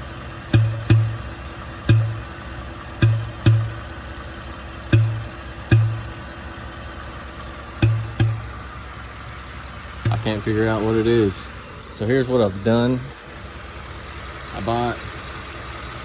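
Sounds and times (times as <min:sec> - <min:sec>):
deep engine thumps: 0:00.0 - 0:16.0
truck engine idling: 0:00.0 - 0:16.0.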